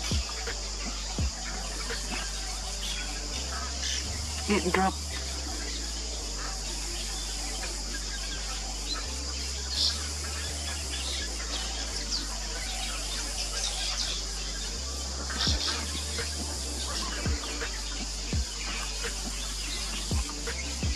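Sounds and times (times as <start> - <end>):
birds chirping: 0.0 - 20.9
steady high hiss: 0.0 - 20.9.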